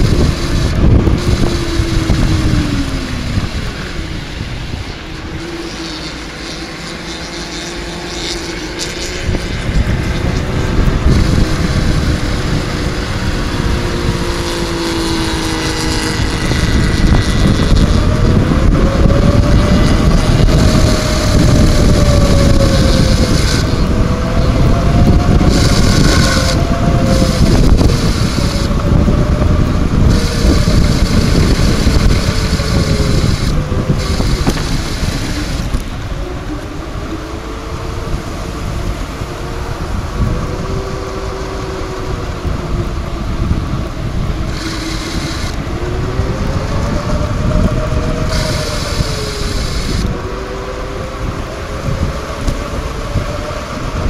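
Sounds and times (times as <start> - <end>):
highway vehicle engines droning: 0.0 - 54.0
wind buffeting microphone: 0.0 - 54.0.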